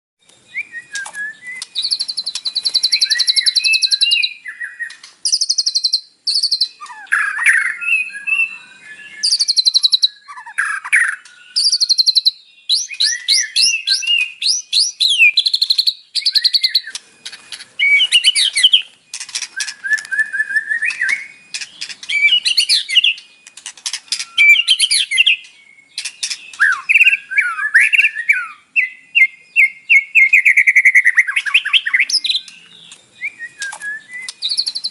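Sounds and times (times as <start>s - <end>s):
bird singing trills and whistles: 0.2s - 34.9s.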